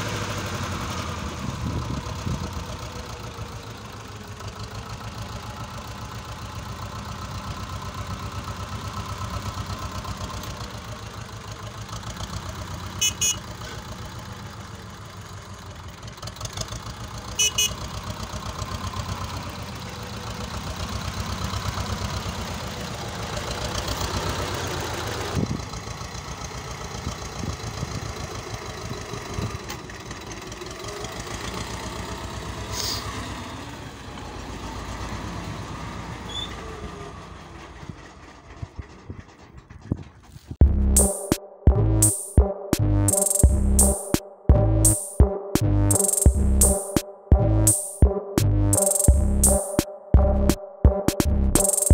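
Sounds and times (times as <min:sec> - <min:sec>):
diesel tractor idling: 0:00.0 - 0:42.1.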